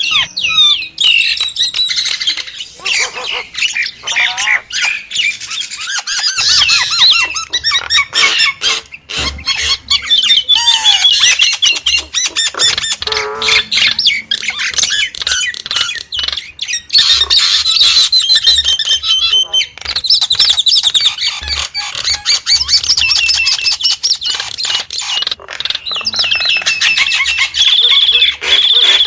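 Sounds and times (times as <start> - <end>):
starling singing whistles and warbles: 0.0 - 29.0.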